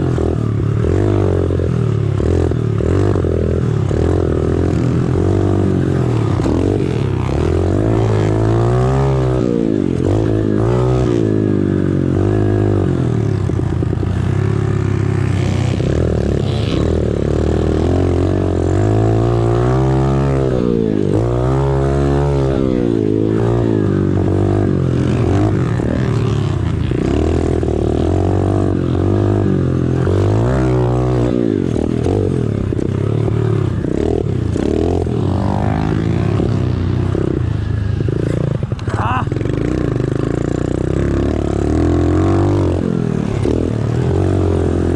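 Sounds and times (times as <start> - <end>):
pit bike engine revving: 0.0 - 44.9.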